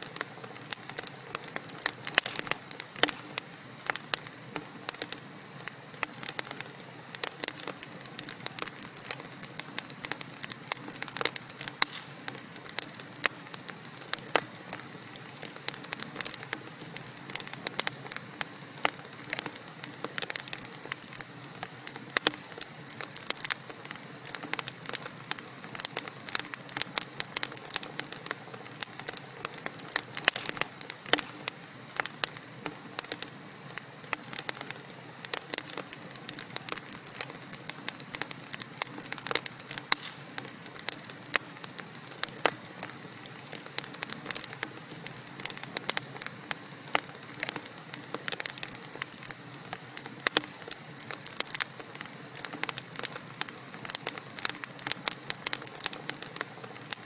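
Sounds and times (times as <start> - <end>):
fire hiss: 0.0 - 57.0
logs crackling and popping: 0.0 - 57.0.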